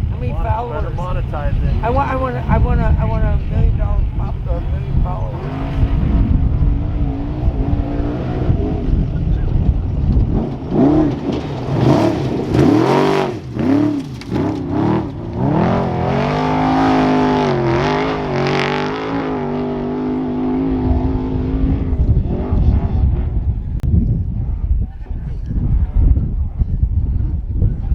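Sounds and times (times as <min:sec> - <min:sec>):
truck engine revving: 0:00.0 - 0:23.8.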